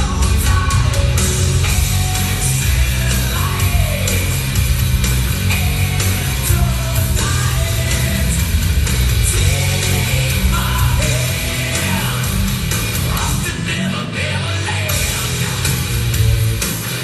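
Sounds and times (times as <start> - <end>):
loud rock music with singing: 0.0 - 17.0.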